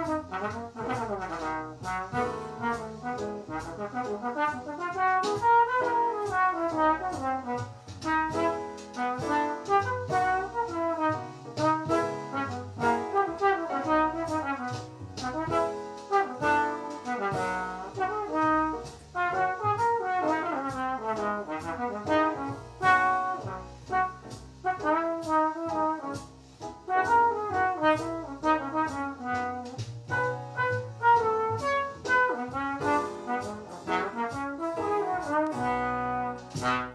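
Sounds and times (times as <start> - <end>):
solo brass jazz melody: 0.0 - 36.9
walking bass line: 0.0 - 36.9.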